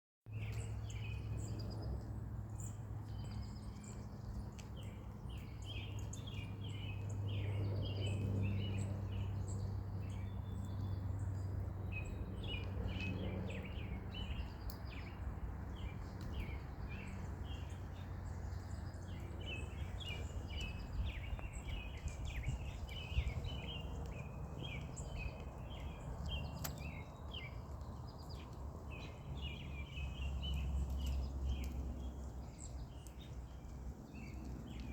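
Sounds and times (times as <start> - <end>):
birds chirping: 0.3 - 34.9.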